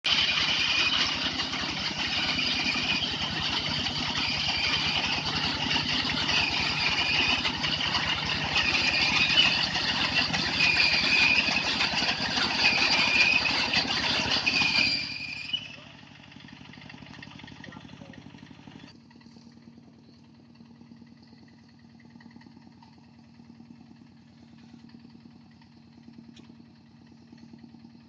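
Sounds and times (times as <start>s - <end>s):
combine harvester engine pulse: 0.0s - 28.0s.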